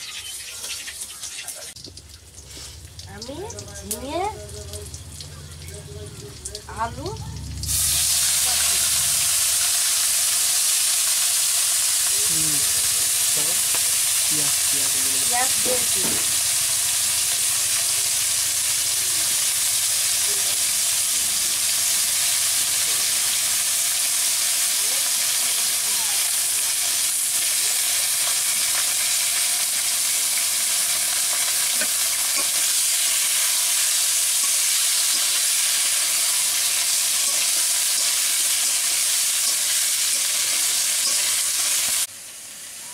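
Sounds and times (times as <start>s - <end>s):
vegetables sizzling in hot oil: 0.0s - 42.9s.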